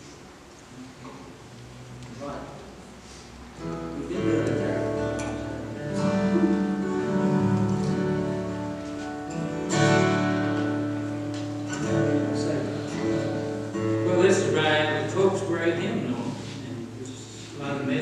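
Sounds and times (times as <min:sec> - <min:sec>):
acoustic guitars strumming chords: 0:02.9 - 0:18.0.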